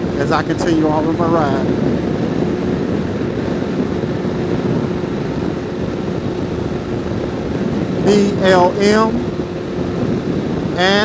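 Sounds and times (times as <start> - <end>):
motorcycle engine droning: 0.0 - 11.0
wind rushing over microphone: 0.0 - 11.0.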